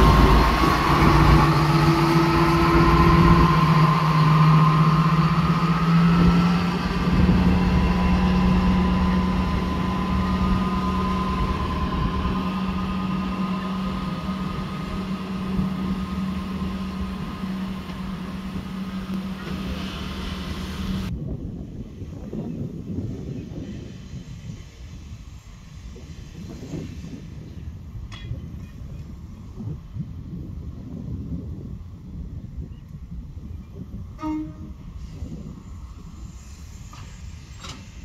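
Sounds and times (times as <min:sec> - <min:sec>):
diesel locomotive engine droning: 0:00.0 - 0:38.0.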